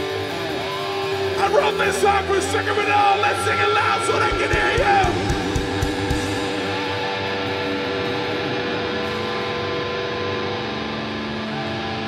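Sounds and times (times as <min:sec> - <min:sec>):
electric guitars ringing: 0:00.0 - 0:12.0.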